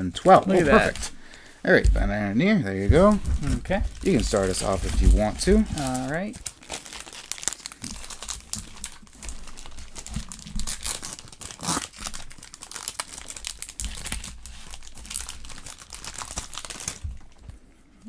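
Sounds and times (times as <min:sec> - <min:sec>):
foil wrapper crinkling and tearing: 0:00.3 - 0:01.5, 0:02.8 - 0:17.6.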